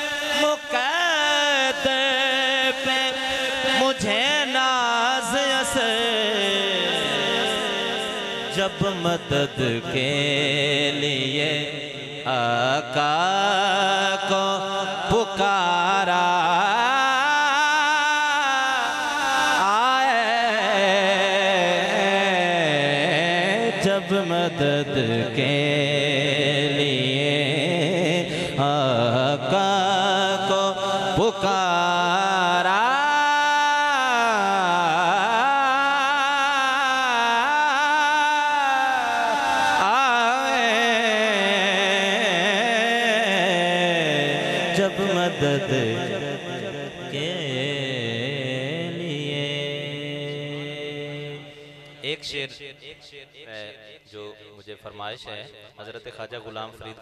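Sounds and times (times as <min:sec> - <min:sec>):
man singing into a microphone: 0:00.0 - 0:57.0.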